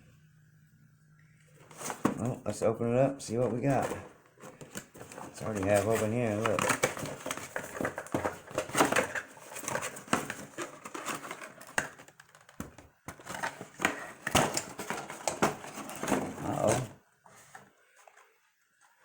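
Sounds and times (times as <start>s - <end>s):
packaging crinkling and rustling: 1.6s - 2.4s, 3.3s - 19.0s.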